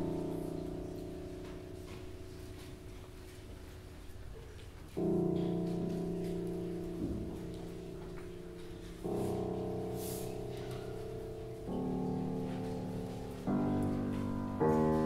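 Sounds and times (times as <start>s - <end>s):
grand piano chords: 0.0s - 15.0s.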